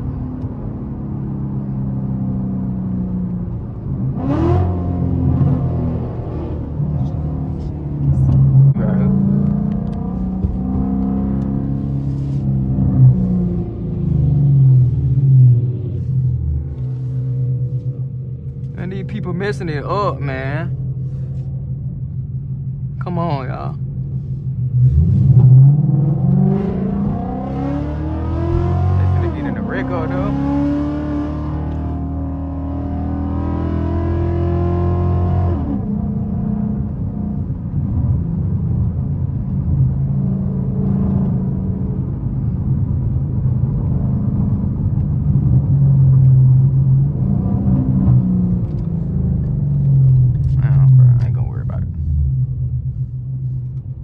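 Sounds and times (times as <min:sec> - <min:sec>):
car engine accelerating: 0:00.0 - 0:22.8, 0:23.4 - 0:54.0.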